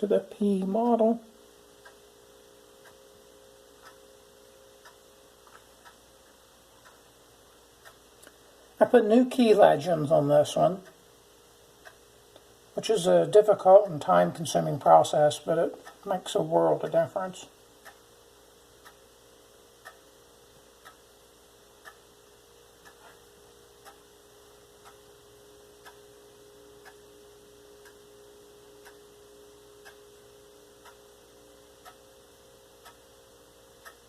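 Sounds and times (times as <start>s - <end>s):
clock ticking: 0.0s - 34.0s.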